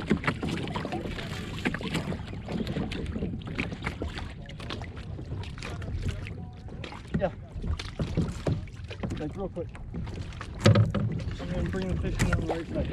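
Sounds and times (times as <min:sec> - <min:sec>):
water sloshing against kayak hull: 0:00.0 - 0:12.9.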